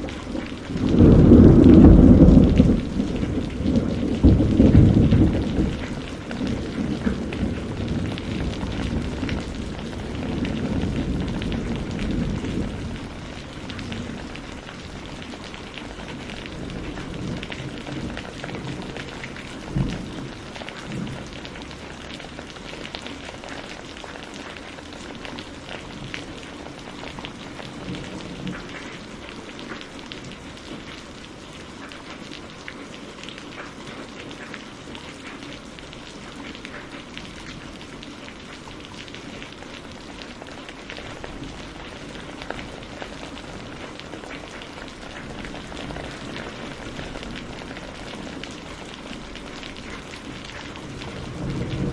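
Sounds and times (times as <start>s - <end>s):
low rumble of thunder: 0.0s - 23.8s, 25.2s - 31.0s, 35.9s - 51.9s
heavy rain: 0.0s - 51.9s.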